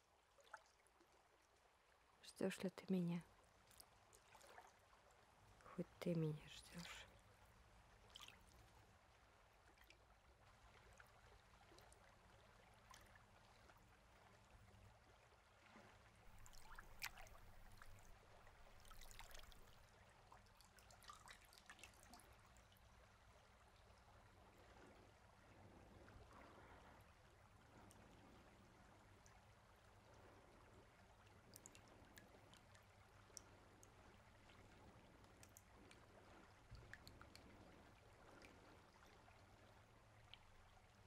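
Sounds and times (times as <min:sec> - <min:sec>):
water trickling and splashing: 0:00.1 - 0:41.0.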